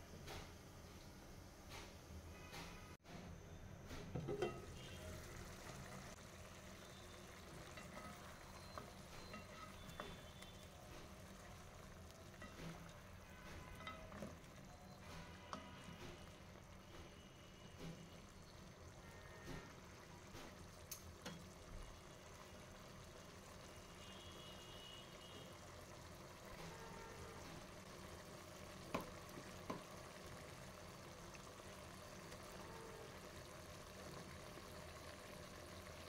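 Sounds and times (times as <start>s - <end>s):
curry simmering and bubbling: 4.0s - 36.0s.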